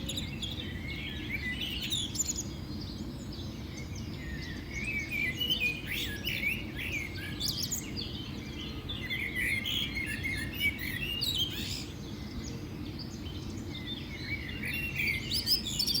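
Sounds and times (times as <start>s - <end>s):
birds chirping and singing: 0.0s - 16.0s.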